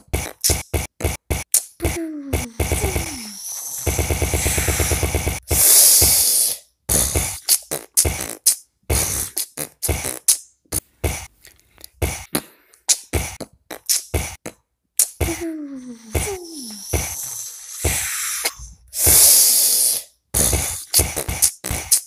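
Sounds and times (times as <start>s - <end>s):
beatboxing mouth percussion hits: 0.0s - 22.0s
beatboxing breath hiss: 1.8s - 22.0s.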